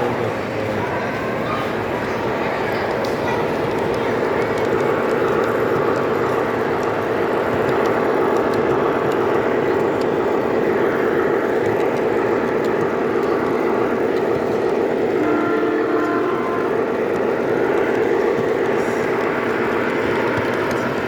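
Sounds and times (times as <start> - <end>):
model train rumbling: 0.0 - 21.0
faint clicks: 2.0 - 21.0.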